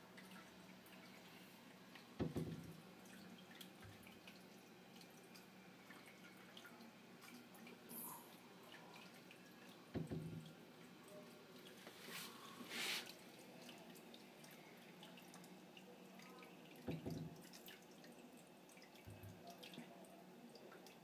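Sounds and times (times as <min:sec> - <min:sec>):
aquarium water trickling: 0:00.0 - 0:21.0.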